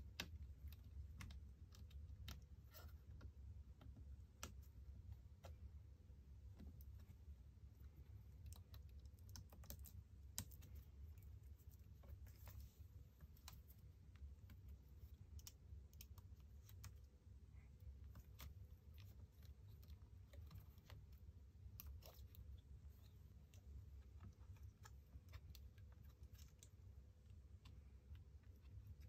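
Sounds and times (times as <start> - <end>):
small clicks and taps of parts: 0.0 - 5.8, 6.4 - 29.0.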